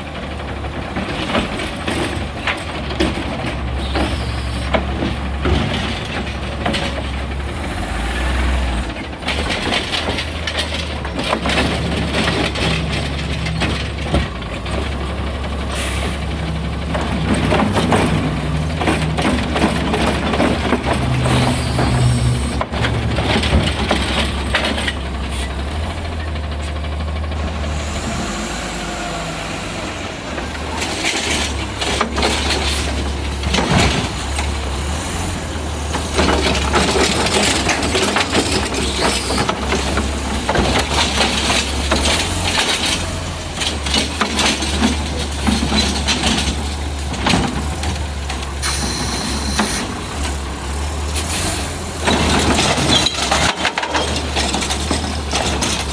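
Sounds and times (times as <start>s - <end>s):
garbage truck engine drone: 0.0s - 55.9s
clanks and knocks: 0.1s - 7.5s, 8.9s - 27.5s, 30.4s - 51.2s, 51.9s - 55.9s.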